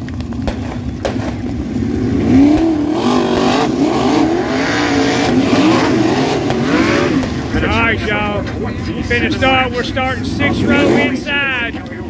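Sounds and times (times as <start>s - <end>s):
race car engines rolling past: 0.0s - 12.0s.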